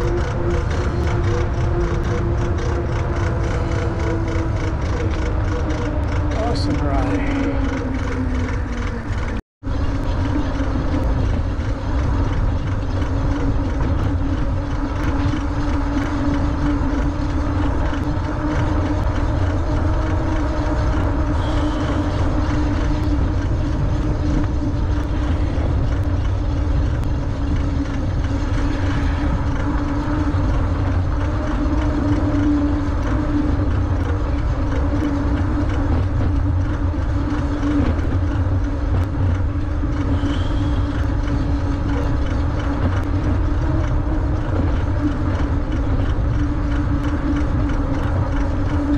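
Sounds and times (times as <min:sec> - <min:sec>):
electric motor hum: 0:00.0 - 0:48.9
wind rushing over microphone: 0:00.0 - 0:48.9.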